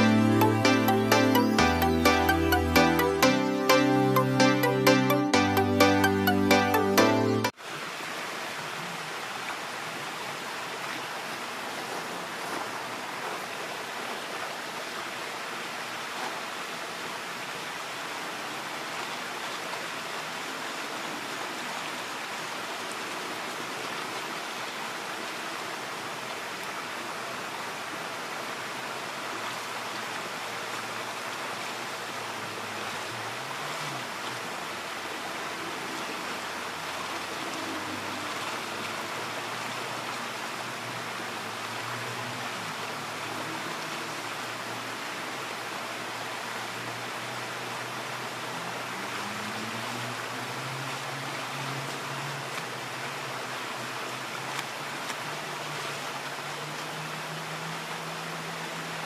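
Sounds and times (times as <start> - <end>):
creek flowing over rocks: 0.0 - 59.0.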